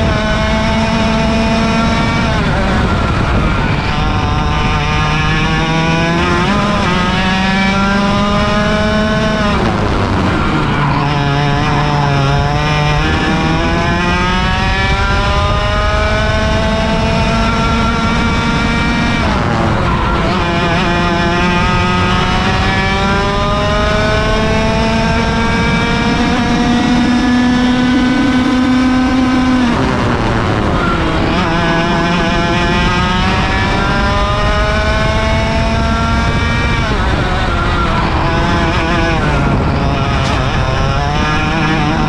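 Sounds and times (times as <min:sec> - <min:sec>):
two-stroke kart engine revving: 0:00.0 - 0:42.0.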